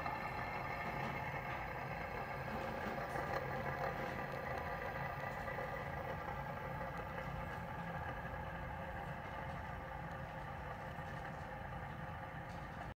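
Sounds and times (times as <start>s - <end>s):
metal ring spinners whirring: 0.0s - 12.9s.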